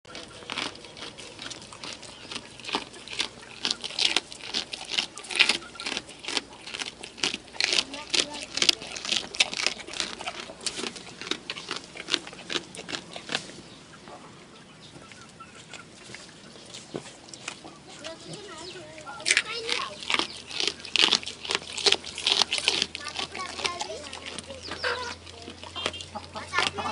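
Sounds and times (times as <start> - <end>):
goat chewing with wet crunches: 0.1 - 26.9.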